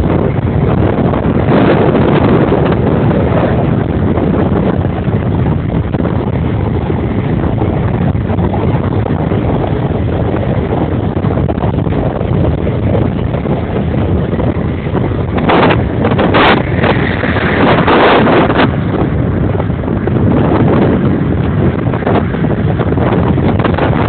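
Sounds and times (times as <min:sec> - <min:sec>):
vehicle running noise: 0:00.0 - 0:24.0
wind buffeting microphone: 0:00.0 - 0:24.0.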